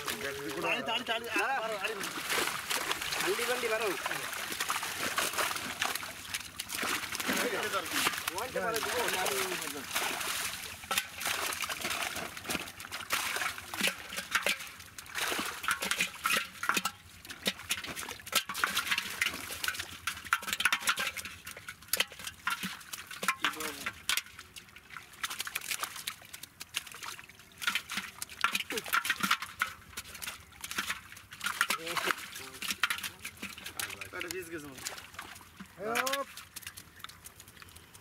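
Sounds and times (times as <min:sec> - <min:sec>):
prawns and fish splashing in water: 0:00.0 - 0:38.0.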